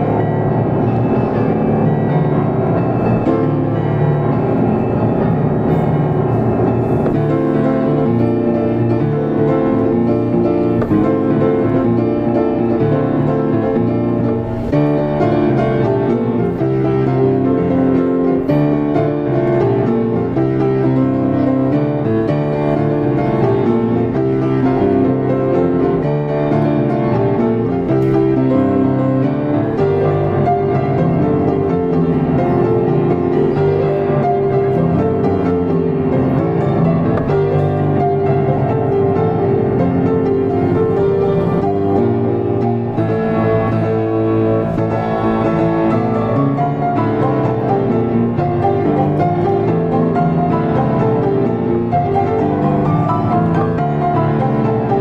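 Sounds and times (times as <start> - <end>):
fast solo piano piece: 0.0 - 55.0.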